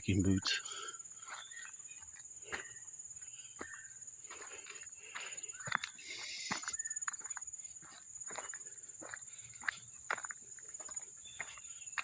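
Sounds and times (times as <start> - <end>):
insect trill: 0.0 - 12.0
footsteps on rocky trail: 0.1 - 12.0.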